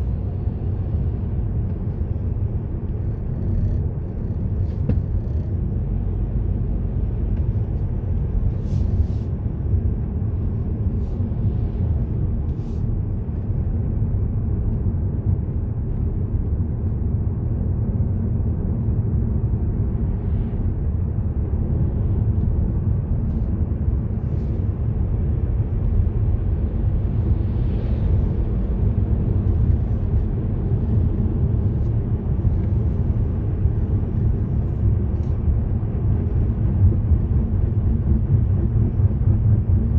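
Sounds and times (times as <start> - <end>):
tyre road noise: 0.0 - 17.2, 19.5 - 39.9
car engine rumble: 0.0 - 39.9.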